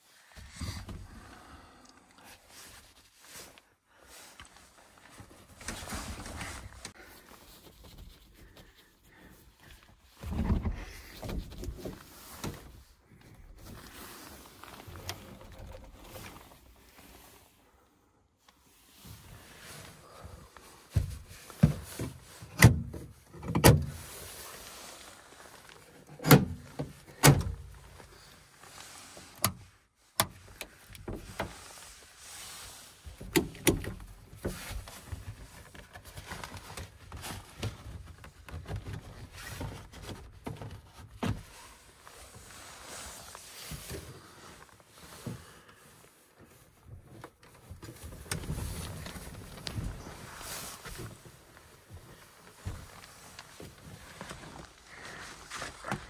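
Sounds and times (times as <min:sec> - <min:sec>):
rustling and handling noise: 0:00.0 - 0:56.0.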